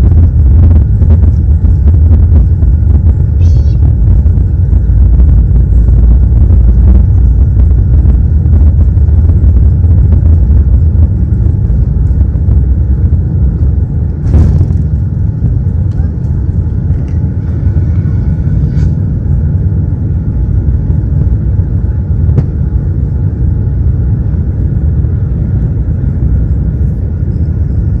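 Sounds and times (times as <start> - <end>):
aircraft engines rumbling in cabin: 0.0 - 28.0.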